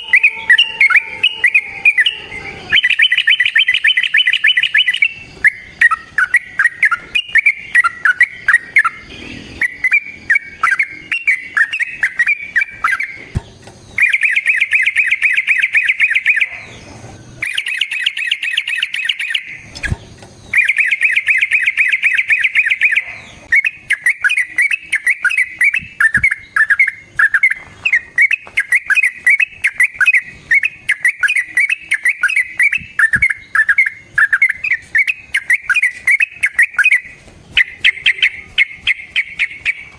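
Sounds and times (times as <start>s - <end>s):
bird singing with rolling trills: 0.0s - 39.9s.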